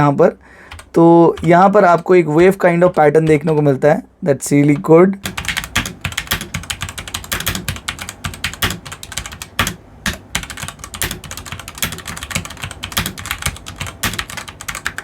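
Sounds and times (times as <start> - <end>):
mechanical keyboard typing: 0.7 - 3.6, 4.7 - 15.0.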